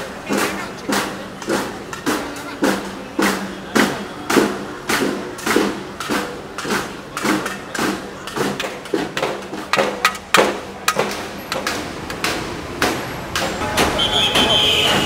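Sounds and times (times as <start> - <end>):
banging strikes with ringing: 0.3 - 15.0.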